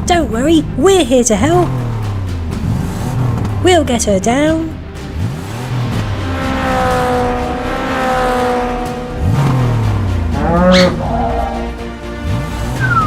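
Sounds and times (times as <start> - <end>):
cartoon motorbike engine revving: 0.1 - 13.0.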